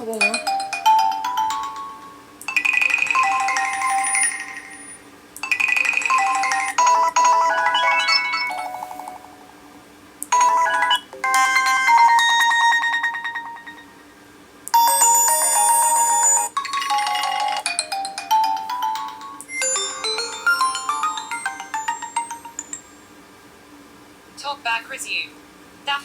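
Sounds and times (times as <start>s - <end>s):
melodic chime ringtones: 0.2s - 9.4s, 10.4s - 14.2s, 14.8s - 23.1s.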